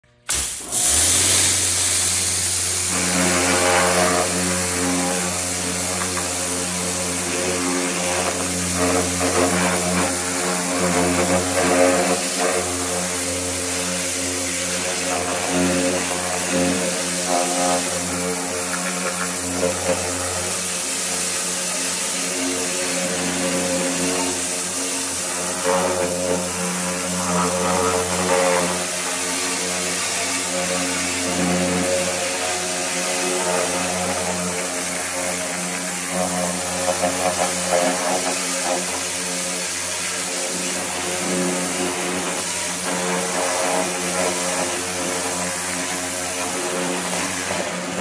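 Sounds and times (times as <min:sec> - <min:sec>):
pressure washer pump humming: 0:00.0 - 0:48.0
water jet hissing on metal: 0:00.3 - 0:48.0.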